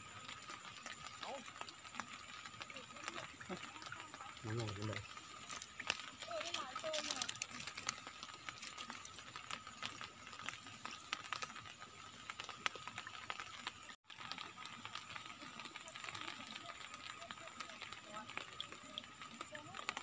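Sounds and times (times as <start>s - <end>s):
raindrops ticking on water: 0.0s - 20.0s.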